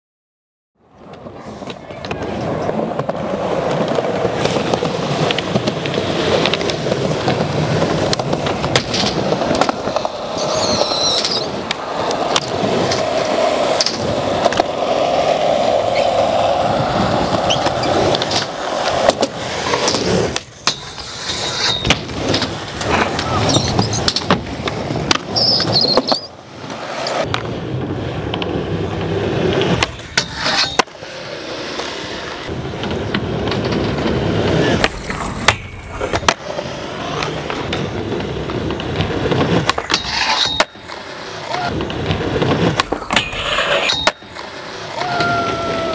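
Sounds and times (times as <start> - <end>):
skateboard wheels rolling: 0.8 - 45.9
skateboard clacks and knocks: 1.0 - 45.9.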